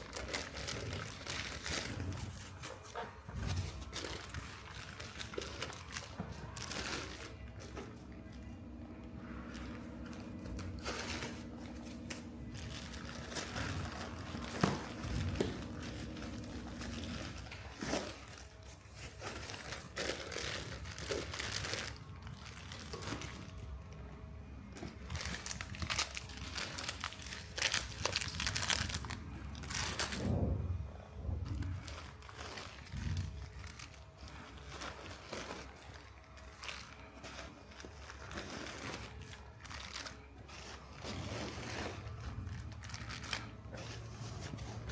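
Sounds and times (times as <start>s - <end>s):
packaging crinkling and tearing: 0.0s - 8.6s, 9.2s - 24.1s, 24.7s - 30.5s, 31.5s - 44.9s
faint steady hum: 0.0s - 44.9s.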